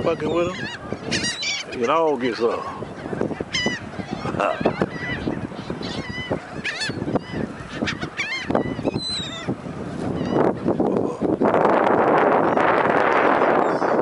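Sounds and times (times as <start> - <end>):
gulls squawking: 0.0 - 11.5, 12.3 - 14.0.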